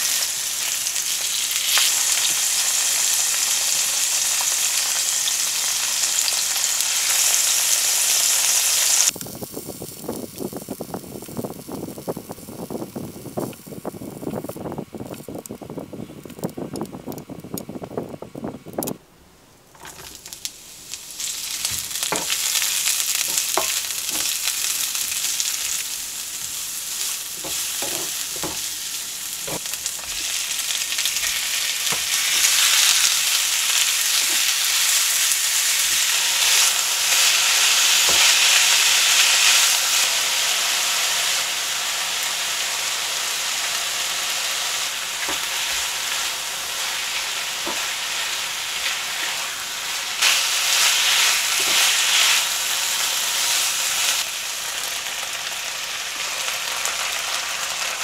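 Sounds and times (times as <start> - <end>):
onion and pork sizzling in pan: 0.0 - 16.5, 19.6 - 58.0.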